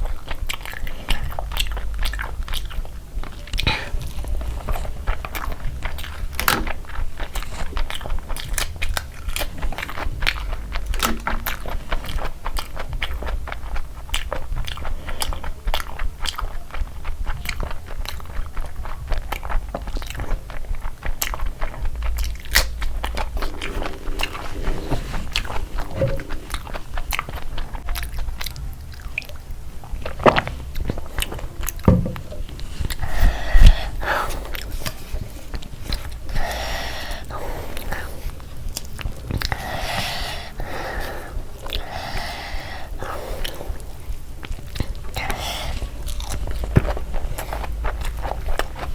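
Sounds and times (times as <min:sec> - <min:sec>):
food being crunched and chewed: 0:00.0 - 0:36.6, 0:40.6 - 0:48.9
wet mouth clicks: 0:00.0 - 0:48.9.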